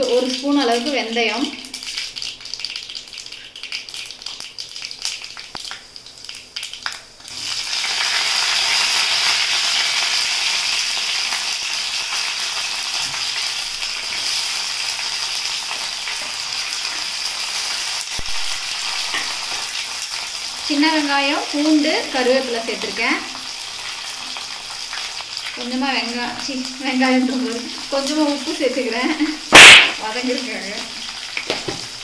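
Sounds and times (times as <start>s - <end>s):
seeds popping in hot oil: 0.0s - 20.6s, 22.8s - 32.0s
loud steady sizzle: 0.0s - 32.0s.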